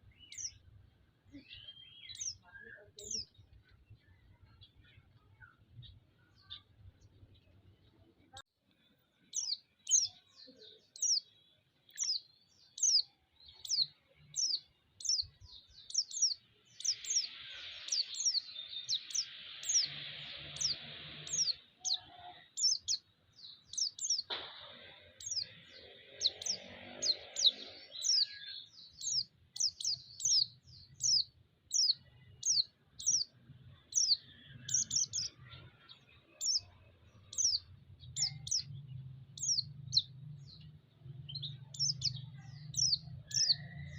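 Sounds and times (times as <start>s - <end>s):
bird chirping: 0.0s - 43.9s.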